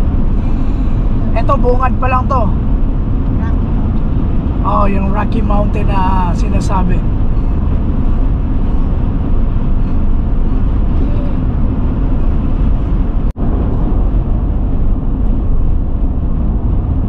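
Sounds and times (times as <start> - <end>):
road and engine noise in vehicle: 0.0 - 17.0.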